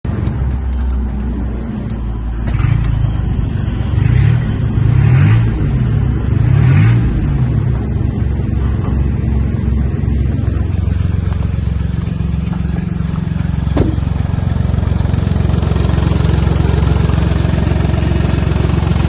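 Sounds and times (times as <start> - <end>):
diesel engine idling and revving: 0.1 - 19.0.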